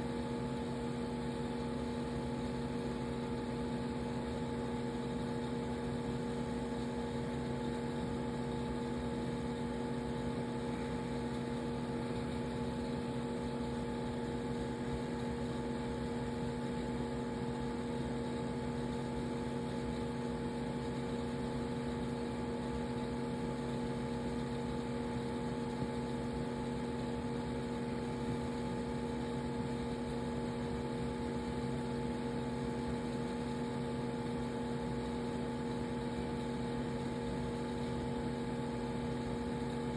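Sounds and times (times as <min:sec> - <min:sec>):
machine hum with low tones: 0:00.0 - 0:39.9.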